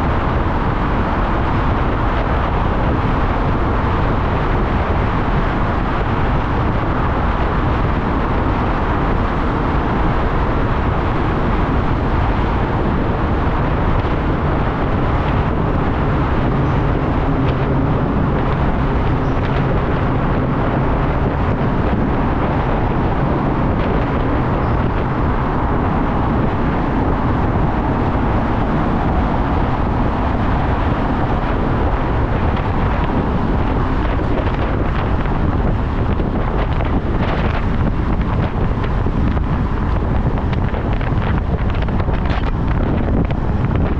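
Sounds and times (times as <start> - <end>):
road and wind noise: 0.0 - 43.9.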